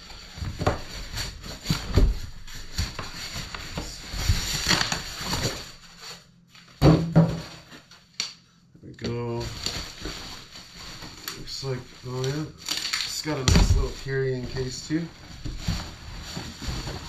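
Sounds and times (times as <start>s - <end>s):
cardboard packaging rustling: 0.0s - 8.1s, 9.1s - 17.0s.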